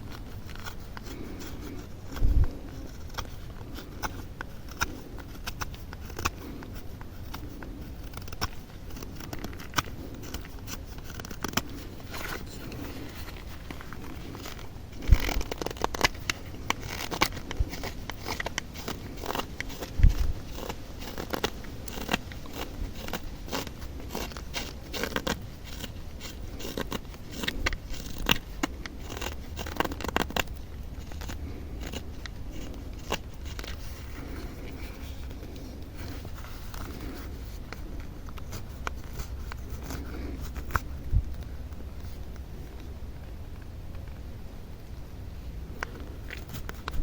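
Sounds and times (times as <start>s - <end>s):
knife whittling wood: 0.0s - 41.0s.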